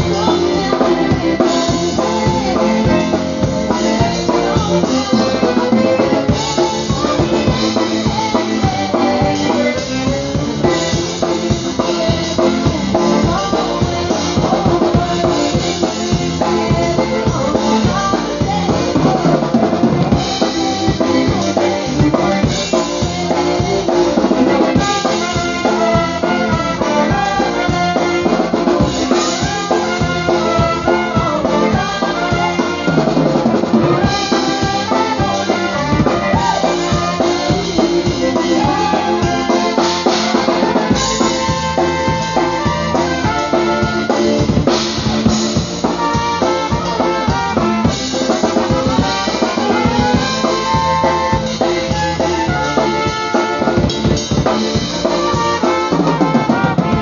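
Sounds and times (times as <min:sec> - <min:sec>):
drum kit beat: 0:00.0 - 0:57.0
polka band playing: 0:00.0 - 0:57.0.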